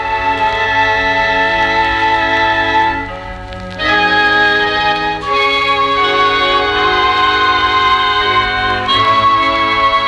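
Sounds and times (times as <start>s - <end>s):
wind band playing chords: 0.0s - 10.0s.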